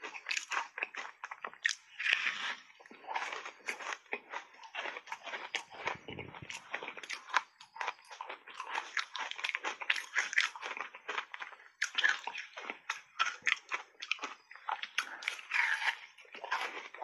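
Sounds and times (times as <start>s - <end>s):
crunching ice: 0.0s - 17.0s.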